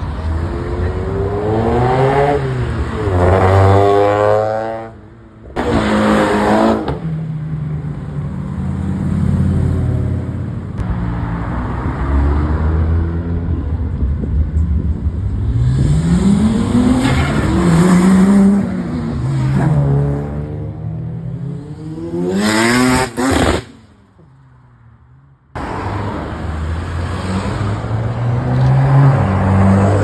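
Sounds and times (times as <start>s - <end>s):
car engines revving: 0.0s - 24.3s, 25.6s - 30.0s.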